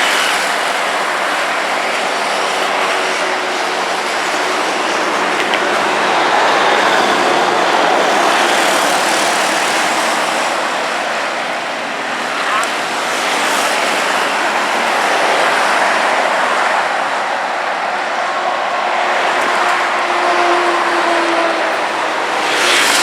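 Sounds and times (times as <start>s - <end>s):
city traffic passing: 0.0s - 23.0s.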